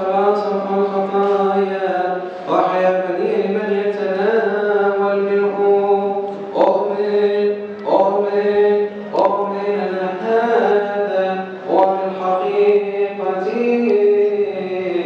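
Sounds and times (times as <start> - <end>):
men chanting a hymn: 0.0 - 15.0.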